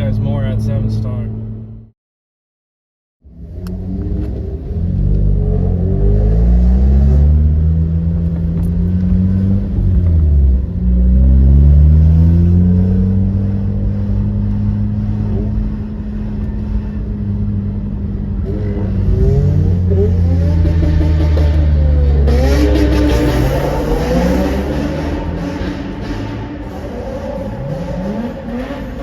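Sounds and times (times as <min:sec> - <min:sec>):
car engine accelerating: 0:03.2 - 0:29.0.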